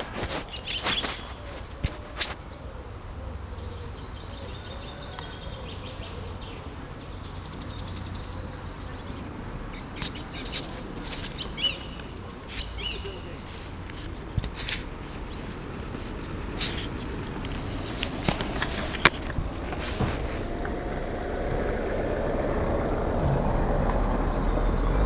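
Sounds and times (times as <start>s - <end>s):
birds chirping and trilling: 0.3s - 19.7s, 21.3s - 25.0s.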